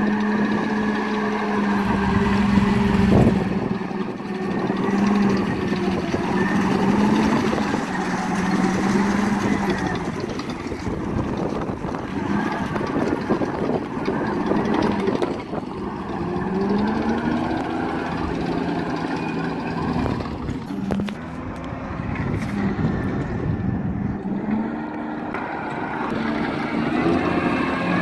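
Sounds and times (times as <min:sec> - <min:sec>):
tracked vehicle engine running: 0:00.0 - 0:28.0.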